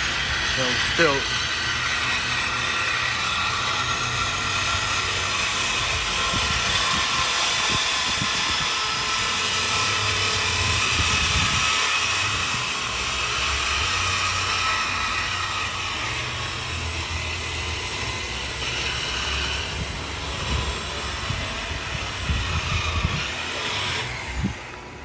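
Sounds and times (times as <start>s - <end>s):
air tools whirring: 0.0s - 25.0s.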